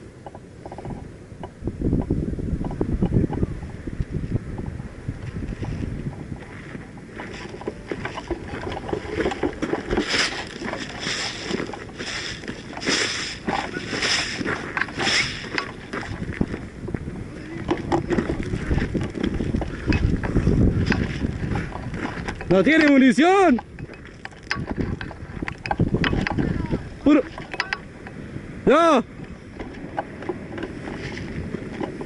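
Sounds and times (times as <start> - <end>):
wind rumble on microphone: 0.0 - 32.0
crunching and rustling ground cover: 3.1 - 28.3, 29.2 - 32.0.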